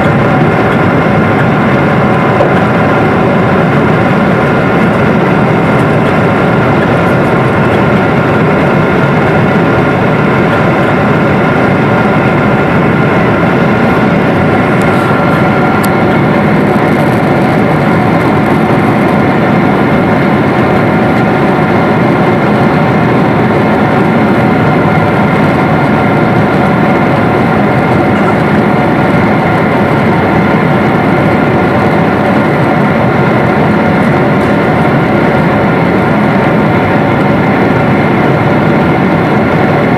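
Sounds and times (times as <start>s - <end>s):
constant high whine: 0.0s - 39.9s
jet engine rush in cabin: 0.0s - 39.9s.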